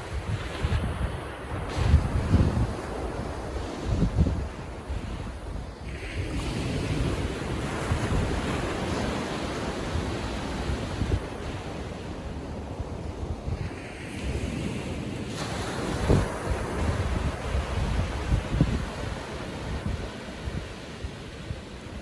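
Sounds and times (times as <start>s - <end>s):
small waves breaking on beach: 0.0s - 22.0s
wind buffeting microphone: 0.0s - 22.0s.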